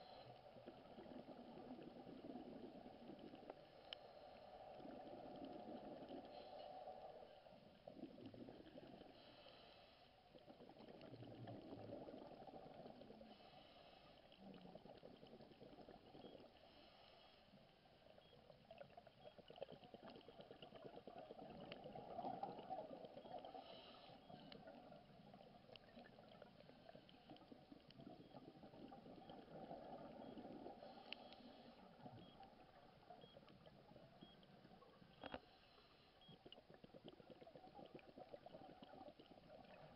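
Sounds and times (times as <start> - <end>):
underwater bubbles gurgling: 0.0 - 9.6, 10.2 - 16.9, 17.6 - 39.9.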